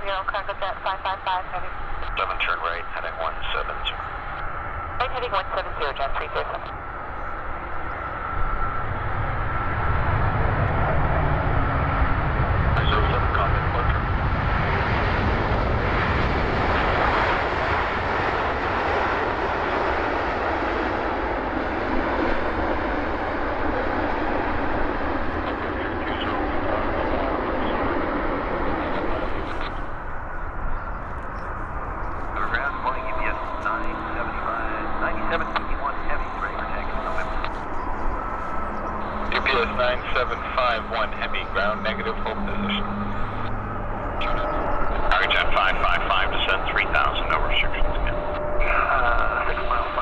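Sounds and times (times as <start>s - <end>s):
jet engine rumble: 0.0s - 50.0s
thin steady whine: 0.0s - 50.0s.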